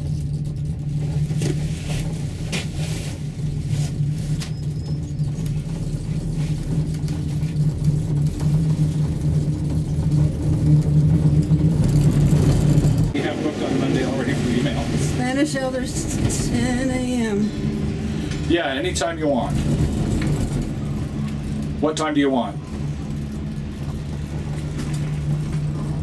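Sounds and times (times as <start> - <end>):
gondola cabin hum and rumble: 0.0 - 26.0.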